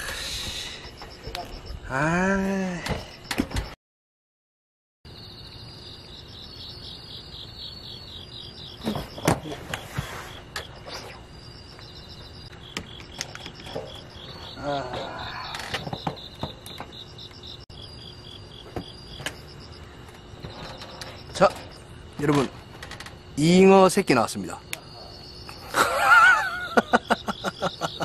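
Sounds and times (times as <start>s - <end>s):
crickets chirping: 0.0s - 3.8s, 5.1s - 28.0s.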